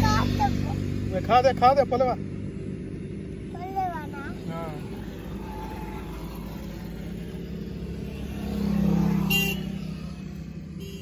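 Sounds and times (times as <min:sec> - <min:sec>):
vehicle engine rumble passing: 0:00.0 - 0:11.0.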